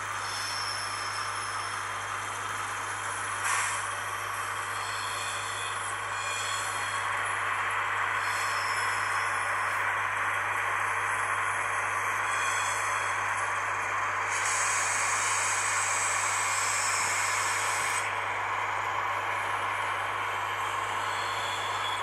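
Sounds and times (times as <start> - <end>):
model locomotive engine sound: 0.0 - 22.0.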